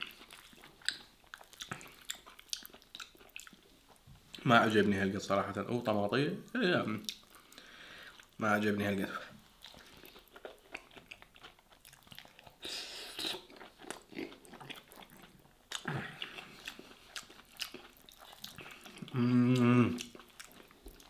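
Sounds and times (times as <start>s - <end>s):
man chewing with wet smacks: 0.0s - 4.4s, 7.0s - 8.4s, 9.4s - 21.0s.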